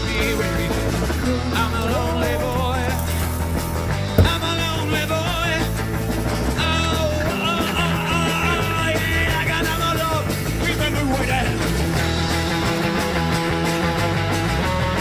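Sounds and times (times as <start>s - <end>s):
rock guitar: 0.0s - 15.0s.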